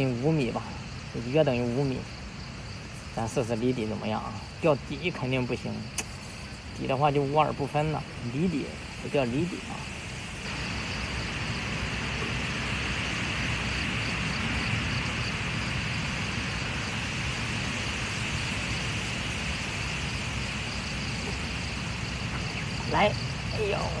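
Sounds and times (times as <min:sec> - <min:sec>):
strong wind blowing: 0:00.0 - 0:24.0
wind buffeting microphone: 0:00.0 - 0:24.0.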